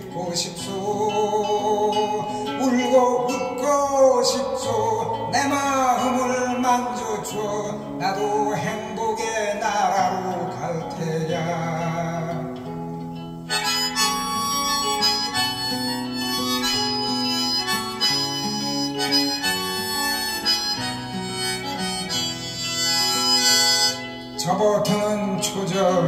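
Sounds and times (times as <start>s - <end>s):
instrumental folk melody: 0.0s - 26.0s.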